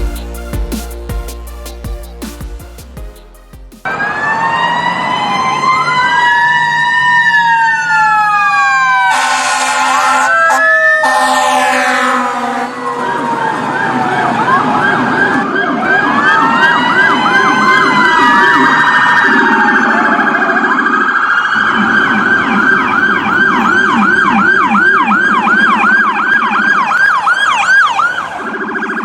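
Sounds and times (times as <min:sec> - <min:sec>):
low warbling siren tone: 0:03.8 - 0:29.0
siren wailing: 0:03.8 - 0:29.0
siren yelping: 0:03.8 - 0:29.0.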